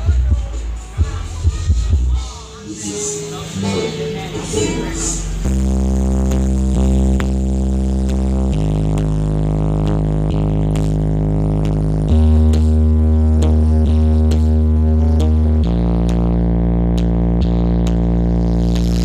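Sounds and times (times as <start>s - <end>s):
droning bass notes: 0.0s - 19.0s
loud dance music: 0.0s - 19.0s.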